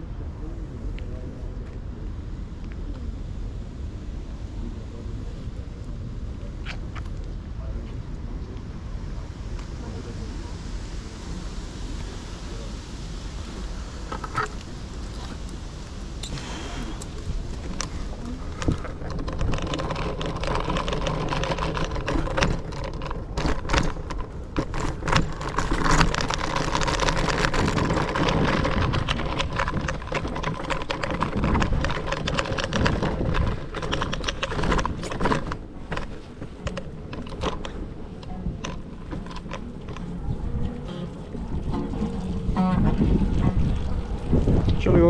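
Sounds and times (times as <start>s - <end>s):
scooter rolling: 0.6s - 45.0s
sharp clicks and rattles: 6.6s - 45.0s.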